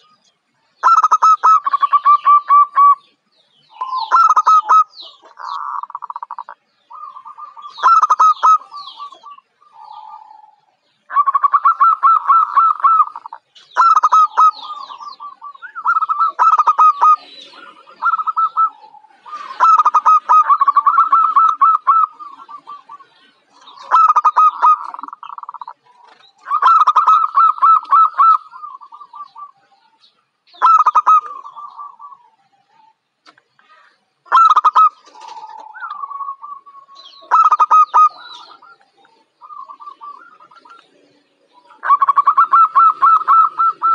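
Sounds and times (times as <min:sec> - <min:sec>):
dove cooing: 0:00.8 - 0:03.1, 0:03.7 - 0:33.0, 0:33.6 - 0:43.9.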